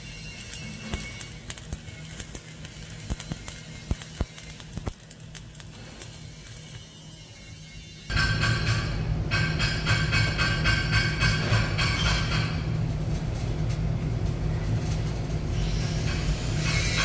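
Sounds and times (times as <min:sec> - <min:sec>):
welding arc hissing and crackling: 0:00.0 - 0:17.0.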